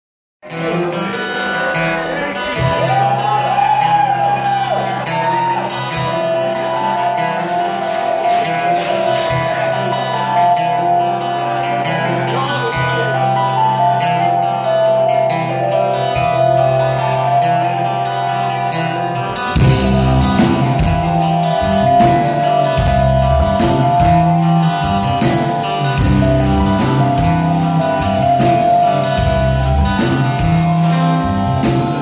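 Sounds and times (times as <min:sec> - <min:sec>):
strummed acoustic guitar: 0:00.4 - 0:32.0
electric bass: 0:02.6 - 0:32.0
synthesizer keyboard: 0:05.7 - 0:32.0.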